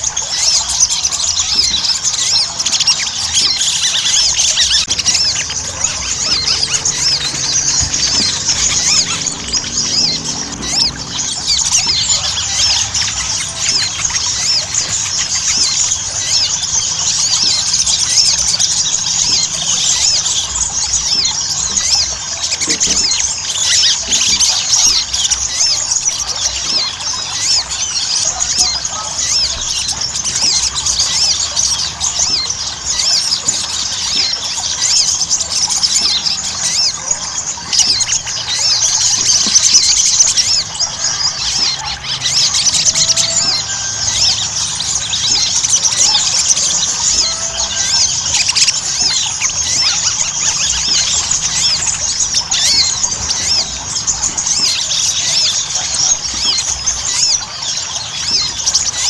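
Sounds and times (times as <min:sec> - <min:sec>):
bird rapid high-pitched chirping: 0:00.0 - 0:59.0.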